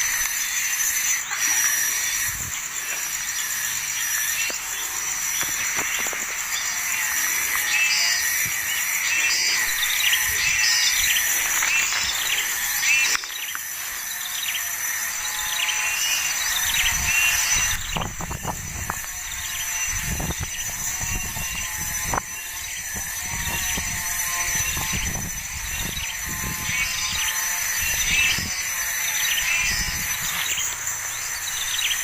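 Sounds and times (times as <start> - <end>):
high insect drone: 0.0 - 32.0
small birds chirping: 0.0 - 32.0.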